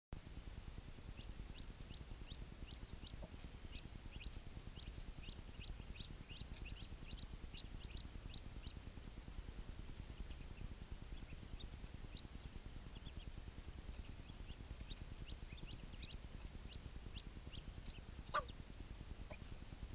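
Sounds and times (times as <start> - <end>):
ducklings peeping: 0.8 - 19.9.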